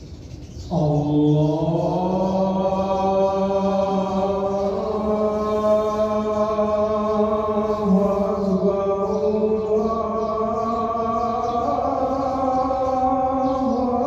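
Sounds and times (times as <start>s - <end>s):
muezzin singing call to prayer: 0.0s - 14.0s.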